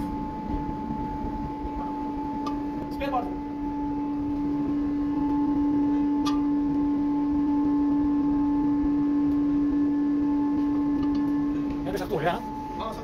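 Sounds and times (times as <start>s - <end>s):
low rumble: 0.0s - 13.0s
steady mechanical hum: 0.0s - 13.0s.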